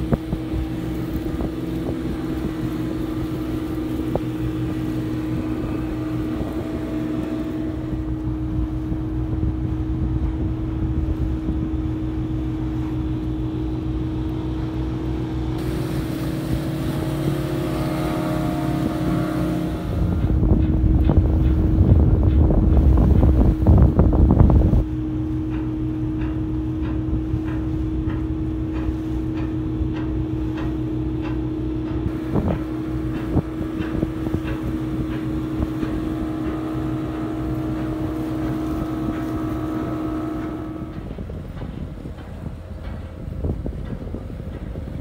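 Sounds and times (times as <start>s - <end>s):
outboard motor drone: 0.0s - 45.0s
wind buffeting microphone: 0.0s - 45.0s.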